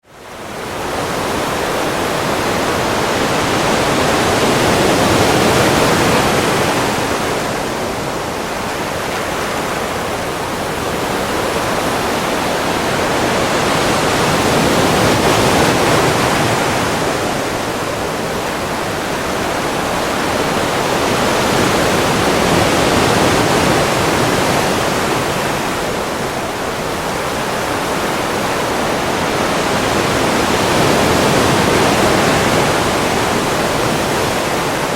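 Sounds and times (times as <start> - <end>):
ocean waves washing in: 0.0 - 34.9.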